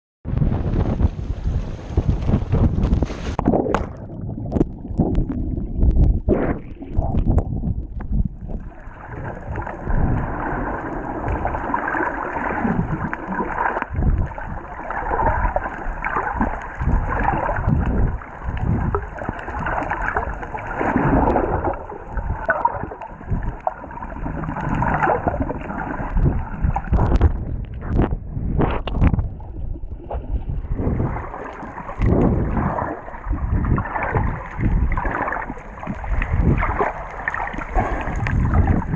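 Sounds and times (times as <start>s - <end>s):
water rushing and bubbling underwater: 0.2s - 38.9s.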